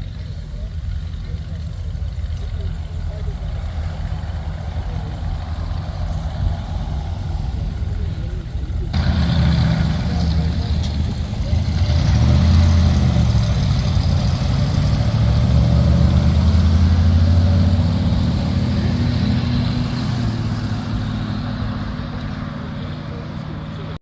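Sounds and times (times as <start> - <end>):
car engine deep pulsing: 0.0 - 24.0.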